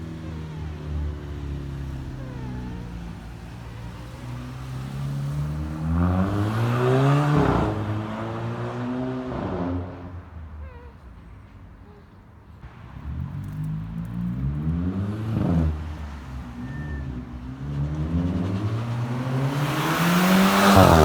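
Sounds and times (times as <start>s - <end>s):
car engine accelerating: 0.0s - 10.5s, 12.6s - 21.0s.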